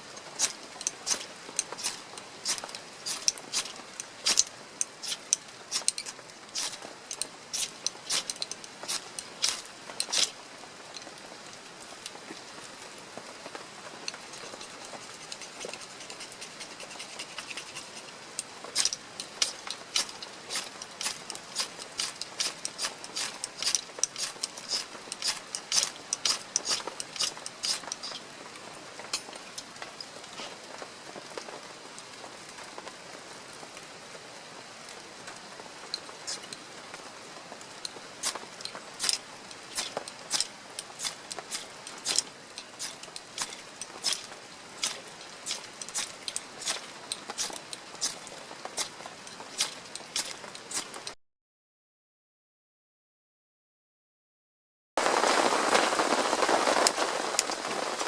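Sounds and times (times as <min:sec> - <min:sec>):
rain hiss: 0:00.0 - 0:51.2, 0:55.0 - 0:58.0.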